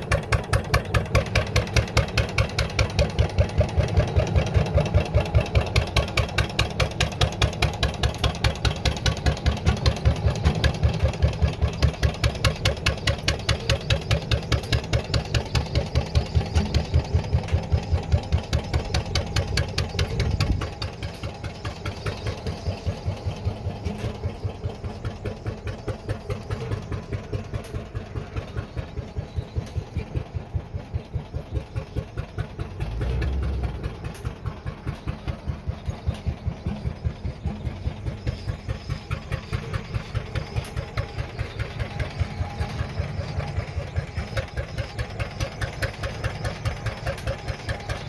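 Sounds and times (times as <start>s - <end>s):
single-cylinder engine running: 0.0s - 48.0s.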